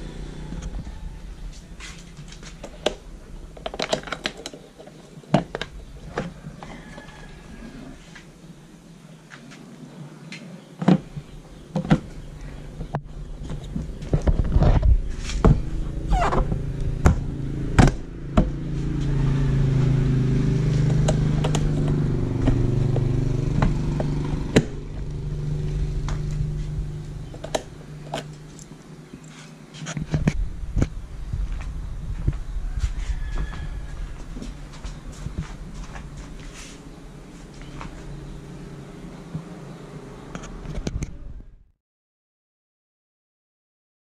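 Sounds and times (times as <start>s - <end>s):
vehicle engine hum: 0.0s - 41.7s.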